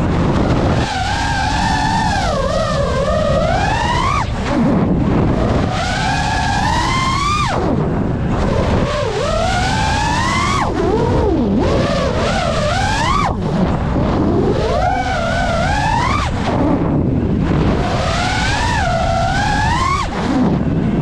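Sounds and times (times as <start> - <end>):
quadcopter motors whining: 0.0 - 20.8
wind noise: 0.0 - 21.0.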